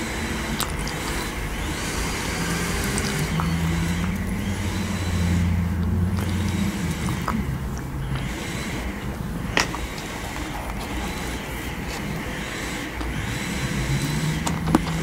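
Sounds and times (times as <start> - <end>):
chewing marshmallow: 0.0 - 15.0
sticky mouth clicks: 0.0 - 15.0.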